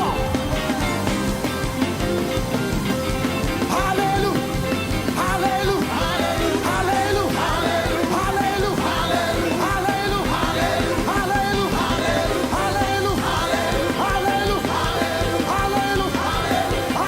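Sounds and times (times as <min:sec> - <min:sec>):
voices singing: 0:00.0 - 0:01.3, 0:03.2 - 0:17.0
band playing: 0:00.0 - 0:17.0.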